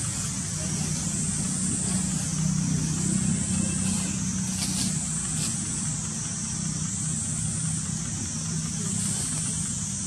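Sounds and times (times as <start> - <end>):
high hiss: 0.0 - 10.0
low motor hum: 0.0 - 10.0.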